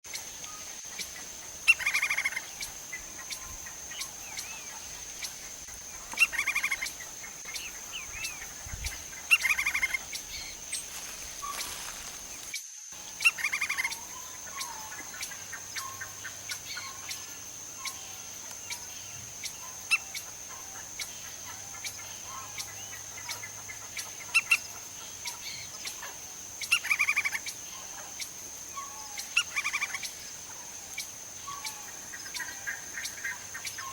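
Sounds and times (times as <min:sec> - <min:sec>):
woodpecker calling: 0:00.1 - 0:33.9.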